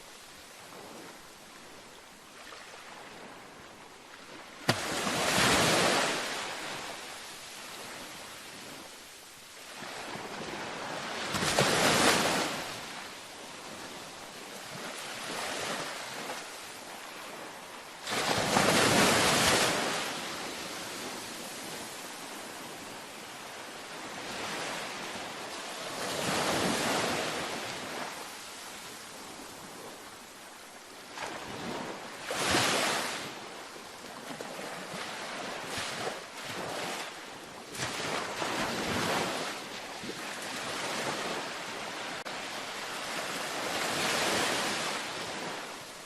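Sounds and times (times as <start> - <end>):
ocean waves breaking on beach: 0.0 - 46.0.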